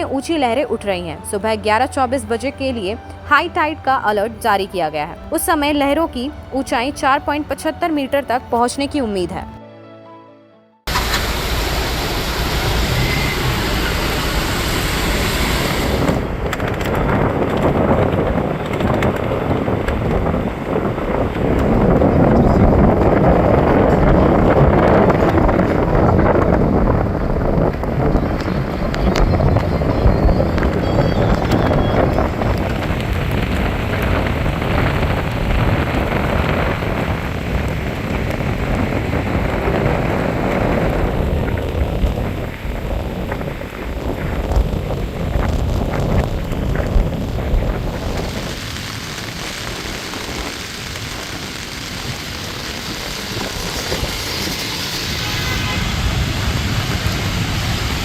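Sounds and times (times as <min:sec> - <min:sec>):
stormy weather rushing noise: 0:10.9 - 0:58.0
wind buffeting microphone: 0:10.9 - 0:58.0.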